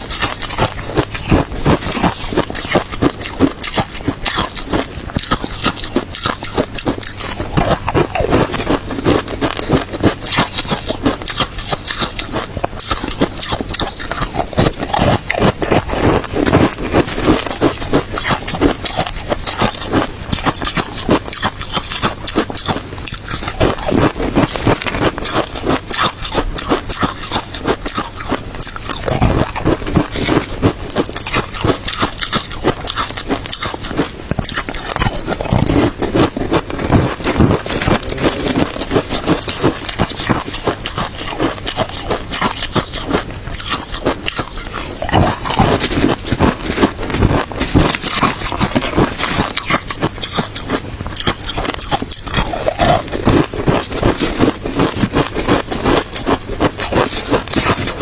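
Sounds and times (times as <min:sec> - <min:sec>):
chewing crunchy shaved ice: 0:00.0 - 0:58.0.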